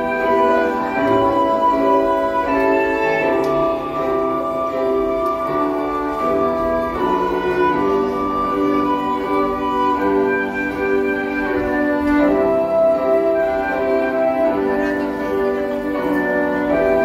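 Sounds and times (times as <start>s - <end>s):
slow violin melody: 0.0s - 17.0s.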